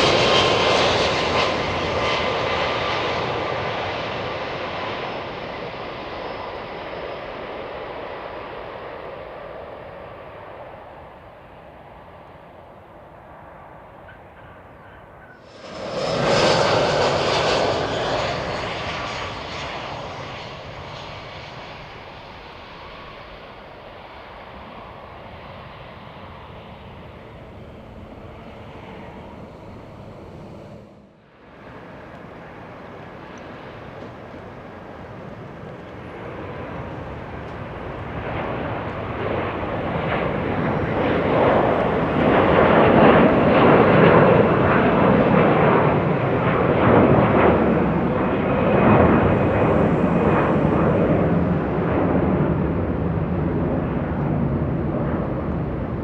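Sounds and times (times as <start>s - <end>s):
jet airliner engines: 0.0s - 56.0s.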